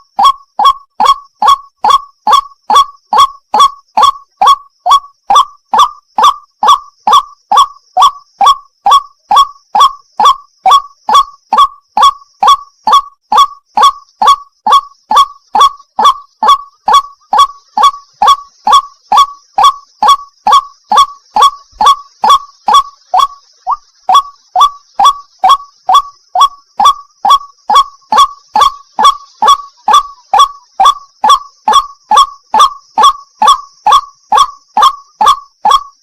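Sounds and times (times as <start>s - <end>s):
waterhen wak call: 0.0s - 36.0s.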